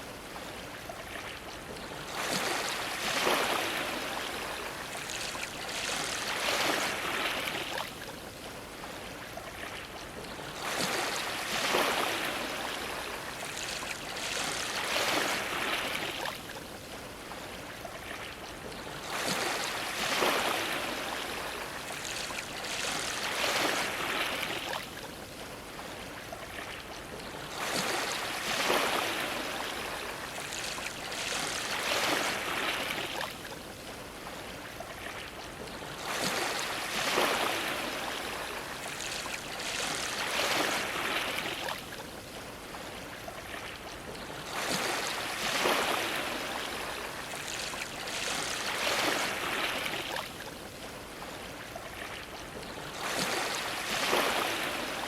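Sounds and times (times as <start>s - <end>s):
ocean waves splashing against dock: 0.0s - 55.0s.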